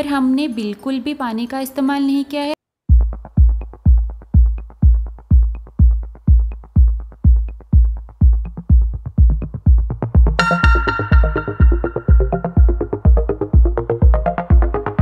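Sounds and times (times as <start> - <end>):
electronic music with drum-machine beat: 2.9 - 15.0.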